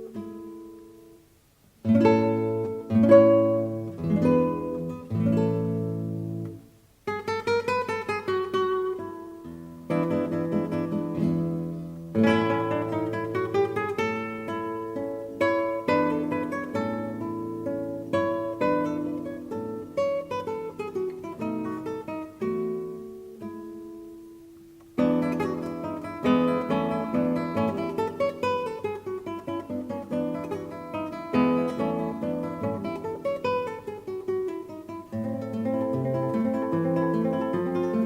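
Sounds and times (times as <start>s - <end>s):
acoustic guitar plucking and strumming: 0.0s - 38.0s.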